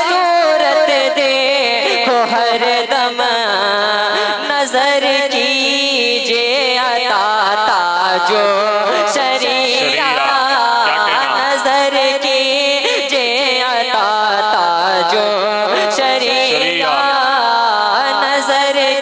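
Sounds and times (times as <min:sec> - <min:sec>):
young man singing into microphone: 0:00.0 - 0:19.0.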